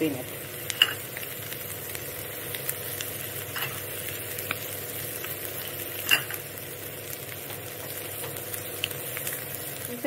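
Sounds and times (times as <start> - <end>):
eggs sizzling in a pan: 0.0 - 10.0.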